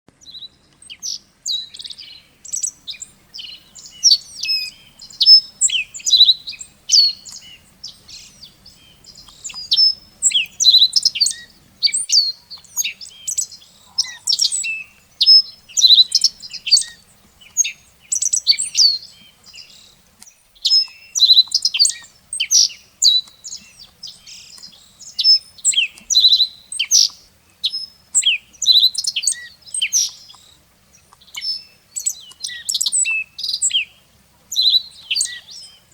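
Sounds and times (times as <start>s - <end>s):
songbirds chirping: 0.1s - 35.9s.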